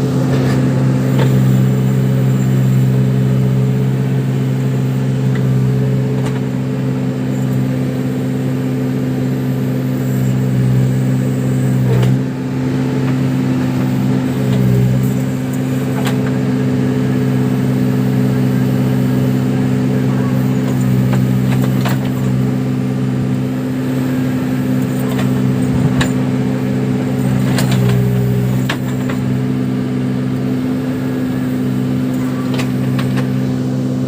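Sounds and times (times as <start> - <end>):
diesel engine under load: 0.0 - 34.0.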